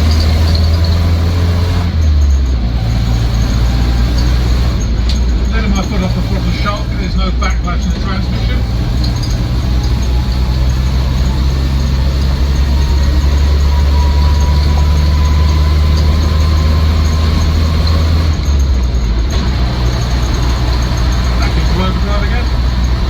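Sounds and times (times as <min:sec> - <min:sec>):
engine drone in cabin: 0:00.0 - 0:23.0.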